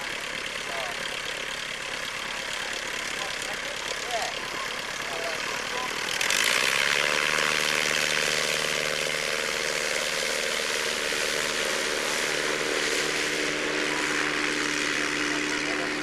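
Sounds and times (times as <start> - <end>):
propeller aircraft engine running: 0.0 - 16.0.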